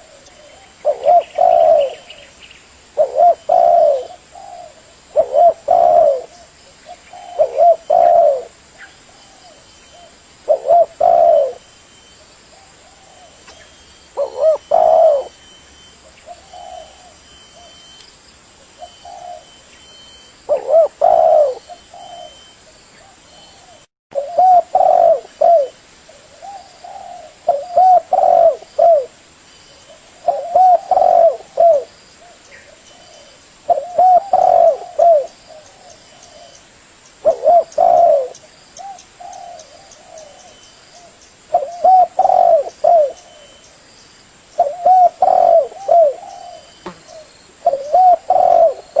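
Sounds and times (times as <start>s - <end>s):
dove cooing: 0.0s - 2.3s, 3.0s - 11.7s, 12.5s - 18.0s, 18.6s - 29.2s, 29.8s - 36.6s, 37.2s - 43.8s, 44.6s - 49.0s.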